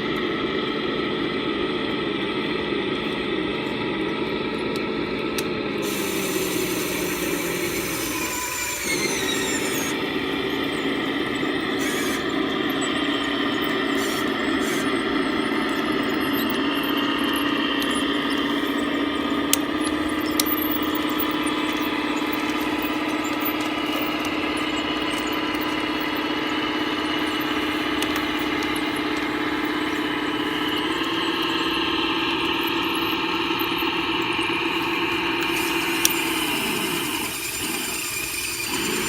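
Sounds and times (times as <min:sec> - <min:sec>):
toy bulldozer motor hum: 0:00.0 - 0:39.0.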